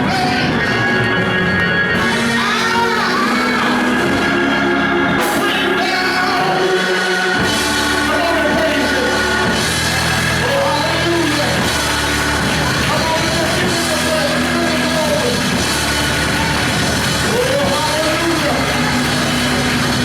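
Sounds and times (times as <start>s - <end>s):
worship band playing: 0.0s - 20.0s.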